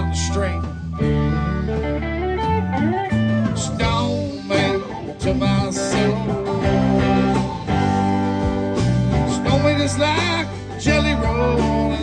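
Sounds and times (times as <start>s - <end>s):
bass guitar: 0.0s - 12.0s
drums: 0.0s - 12.0s
lead electric guitar bending notes: 0.0s - 12.0s
strummed acoustic guitar: 0.2s - 12.0s.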